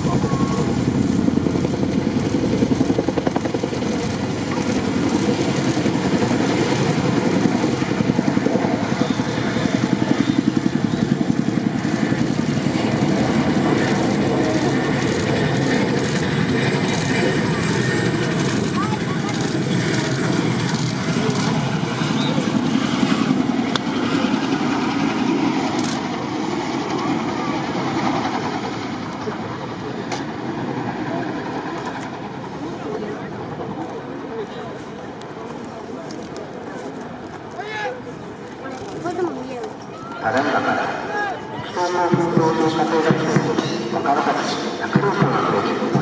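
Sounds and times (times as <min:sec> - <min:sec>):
helicopter rotors beating: 0:00.0 - 0:46.0.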